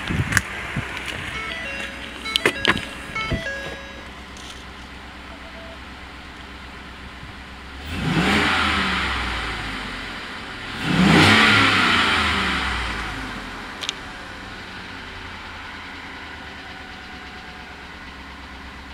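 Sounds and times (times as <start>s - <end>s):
car engine revving: 0.0s - 16.4s
car engine idling: 0.0s - 18.9s.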